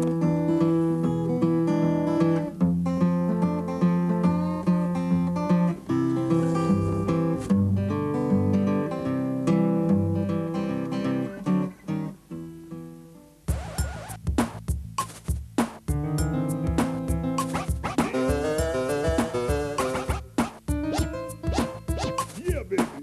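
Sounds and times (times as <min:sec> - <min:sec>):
plucked guitar tune: 0:00.0 - 0:14.9, 0:15.9 - 0:23.0.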